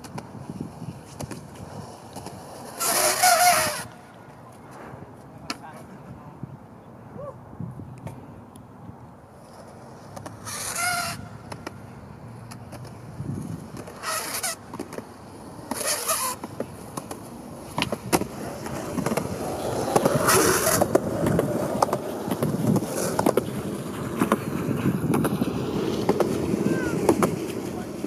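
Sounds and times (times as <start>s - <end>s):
skateboard clacking on ground: 0.0s - 6.1s, 9.4s - 28.0s
skateboard wheels rolling on concrete: 0.0s - 28.0s.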